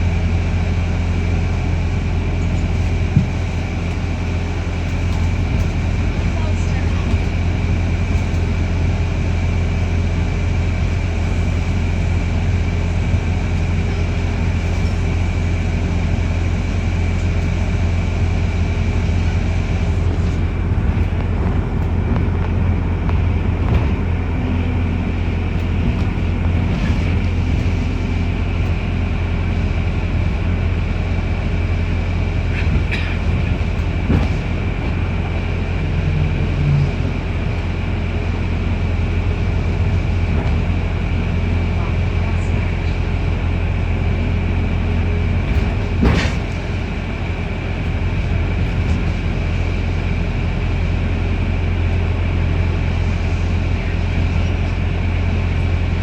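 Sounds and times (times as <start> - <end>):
bus drivetrain and road rumble: 0.0 - 56.0.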